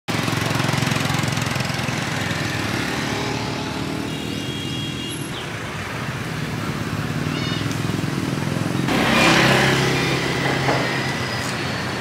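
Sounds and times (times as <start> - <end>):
motor scooters passing by: 0.1 - 12.0.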